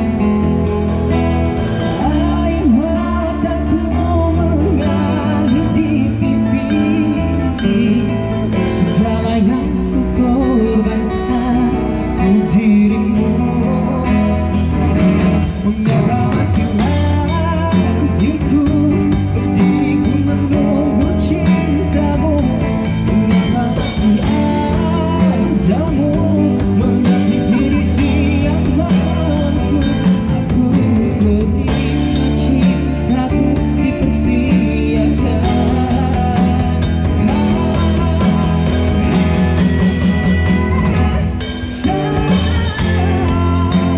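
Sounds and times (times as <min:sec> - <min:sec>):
man singing into microphone: 0:00.0 - 0:43.9
strummed acoustic guitars: 0:00.0 - 0:43.9.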